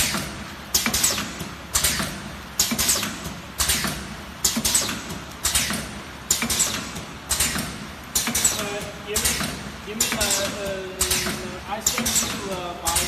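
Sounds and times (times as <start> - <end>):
packing machine clacking: 0.0 - 13.0.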